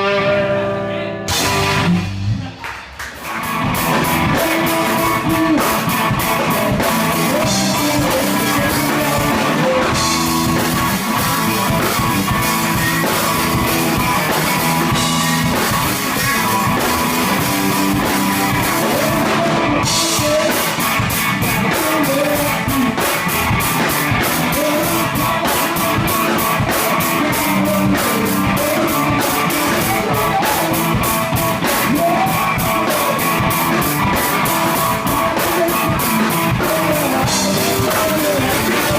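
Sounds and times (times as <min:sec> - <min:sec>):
person singing: 0:00.0 - 0:01.6, 0:03.8 - 0:38.9
electric guitars: 0:00.0 - 0:38.9
drum kit beats: 0:01.2 - 0:38.9.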